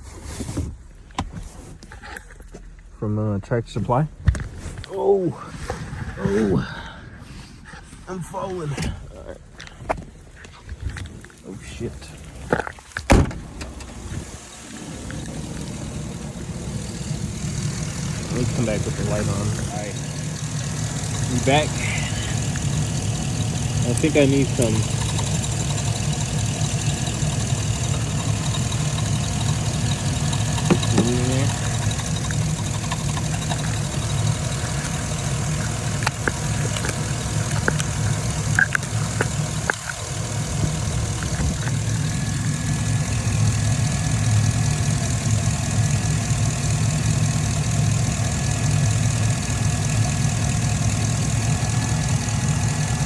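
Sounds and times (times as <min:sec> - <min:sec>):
car engine idling: 0:00.8 - 0:53.0.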